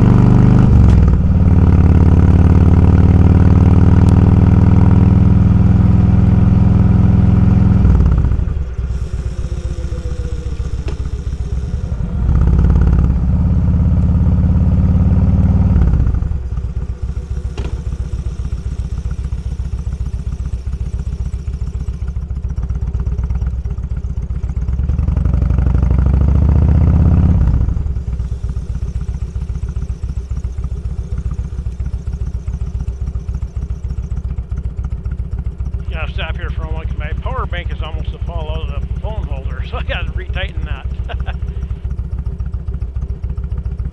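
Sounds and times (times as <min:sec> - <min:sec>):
motorcycle engine: 0:00.0 - 0:43.9.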